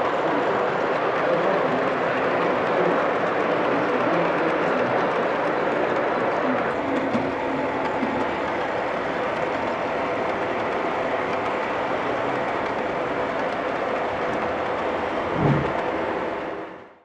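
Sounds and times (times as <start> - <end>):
model train wheels rolling on rails: 0.0 - 17.0.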